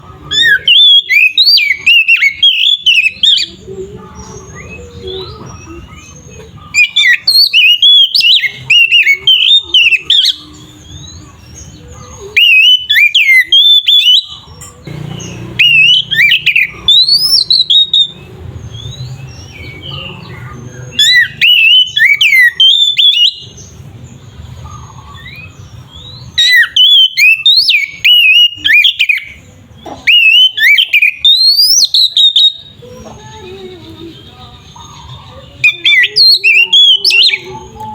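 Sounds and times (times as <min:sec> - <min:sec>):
magpie-robin singing: 0:00.0 - 0:37.9.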